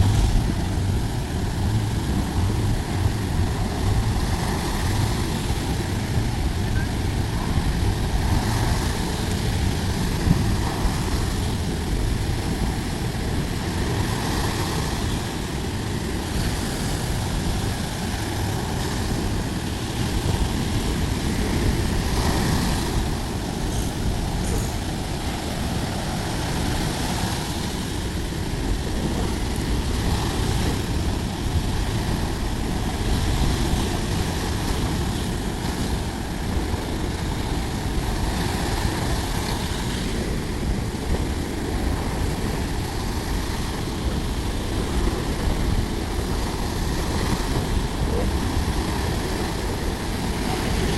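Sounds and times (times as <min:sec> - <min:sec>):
waves breaking on a beach: 0:00.0 - 0:50.9.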